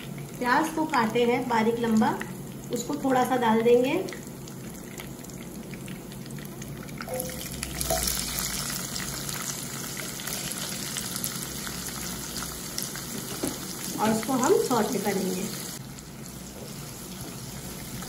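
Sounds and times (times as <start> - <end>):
hot oil sizzling: 0.0 - 18.0.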